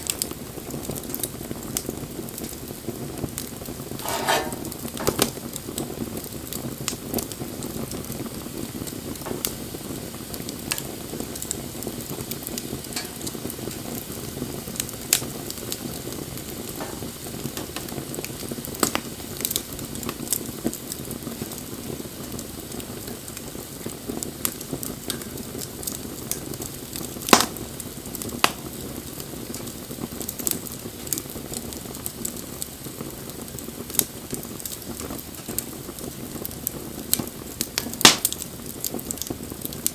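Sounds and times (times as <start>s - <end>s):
burning wood crackling and popping: 0.0s - 39.9s.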